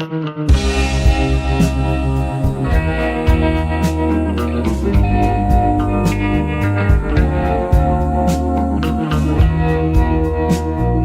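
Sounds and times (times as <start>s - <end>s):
instrumental music with guitar: 0.0s - 11.0s.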